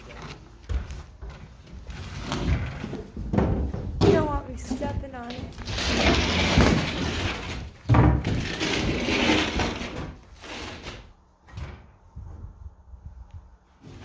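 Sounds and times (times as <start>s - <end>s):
wood scraping and rattling: 0.0s - 12.5s, 13.7s - 14.0s.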